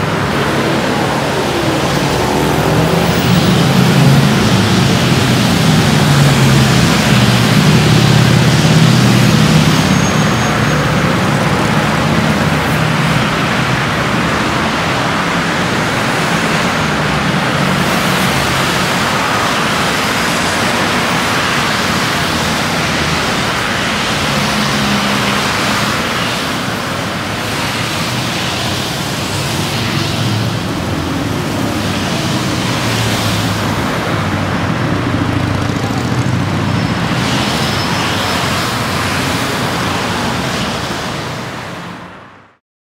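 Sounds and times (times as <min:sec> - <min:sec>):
road traffic noise: 0:00.0 - 0:42.6.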